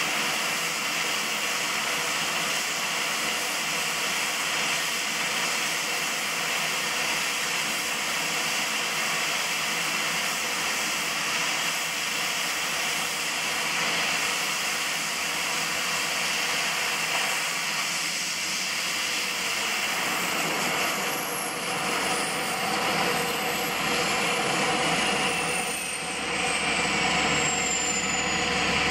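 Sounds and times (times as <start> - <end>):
turboprop engines whining: 0.0 - 28.9.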